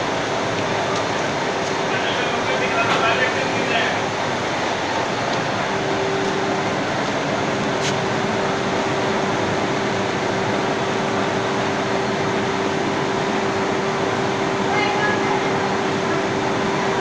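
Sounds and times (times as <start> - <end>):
printing machine running: 0.0 - 17.0.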